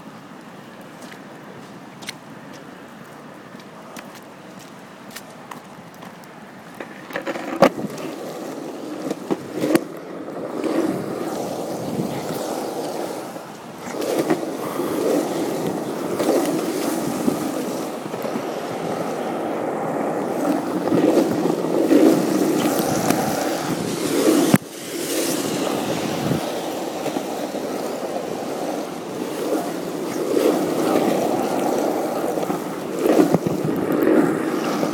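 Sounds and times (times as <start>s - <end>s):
skateboard wheels rolling on asphalt: 0.0s - 34.9s.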